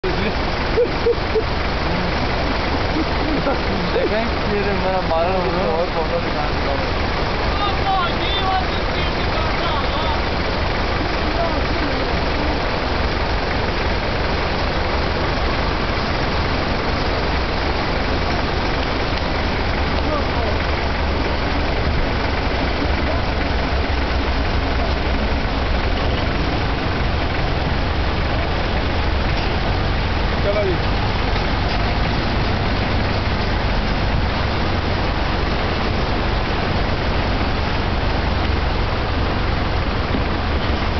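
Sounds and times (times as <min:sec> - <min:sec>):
road noise: 0:00.0 - 0:40.9
truck engine rumble: 0:00.0 - 0:40.9.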